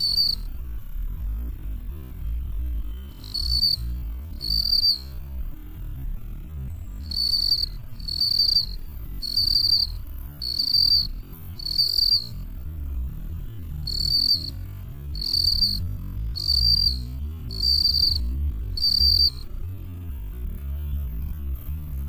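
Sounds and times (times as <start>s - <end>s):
field cricket chirping: 0.0s - 5.4s, 6.7s - 19.5s.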